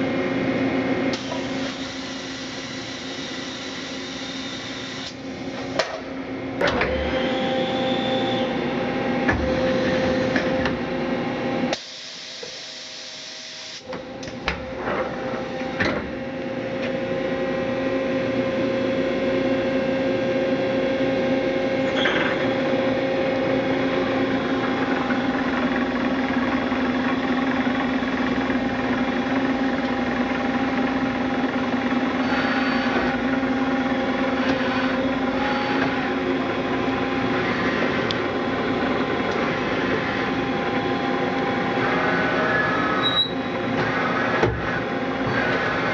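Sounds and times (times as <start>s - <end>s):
machining center whine and hum: 0.0s - 45.9s.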